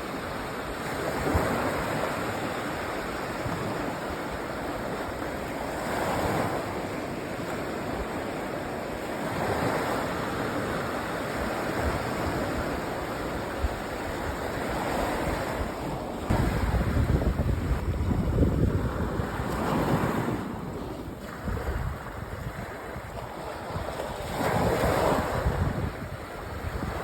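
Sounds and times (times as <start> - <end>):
sea waves breaking on beach: 0.0 - 27.0
wind buffeting microphone: 0.0 - 27.0.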